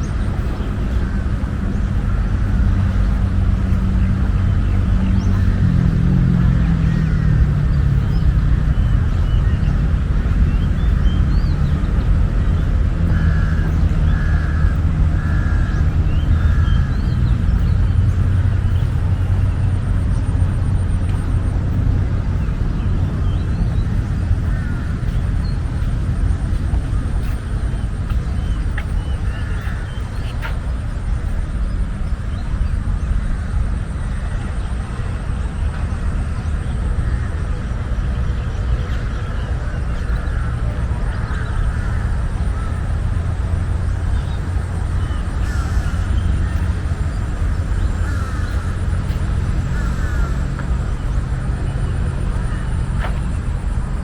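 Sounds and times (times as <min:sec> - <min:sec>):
low rumble of city traffic: 0:00.0 - 0:54.0.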